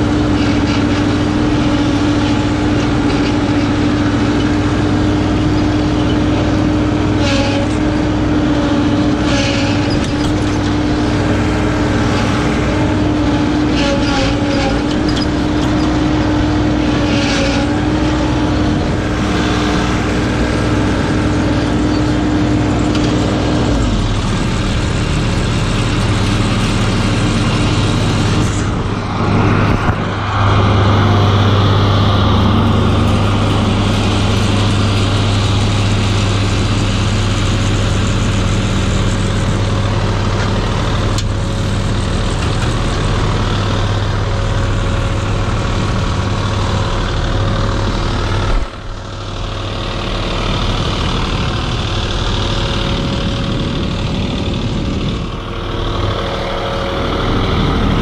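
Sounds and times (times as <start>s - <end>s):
ride-on mower engine running: 0.0s - 58.0s.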